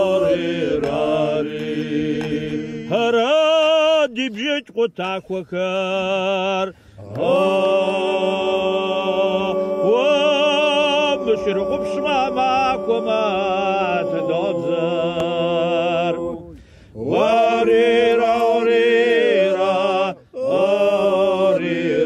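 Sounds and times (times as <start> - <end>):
men singing slow chant: 0.0 - 22.0.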